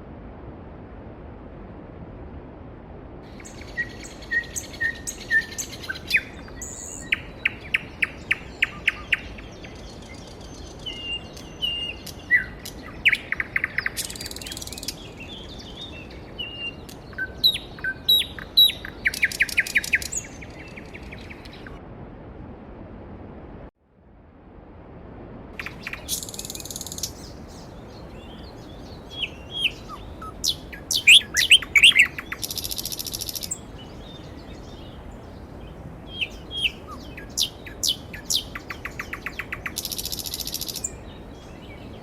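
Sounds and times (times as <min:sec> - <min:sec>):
songbirds chirping and trilling: 0:03.3 - 0:21.8, 0:25.6 - 0:42.0.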